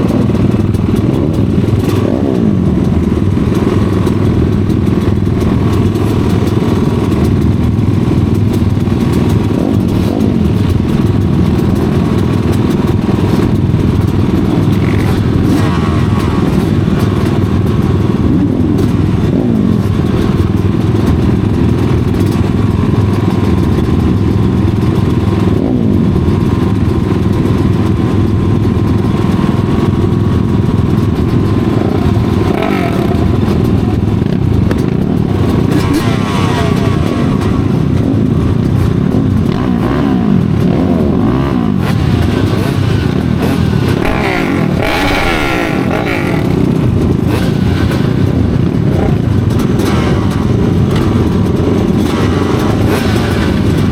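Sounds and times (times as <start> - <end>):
racing motorcycle engines: 0.0 - 53.9.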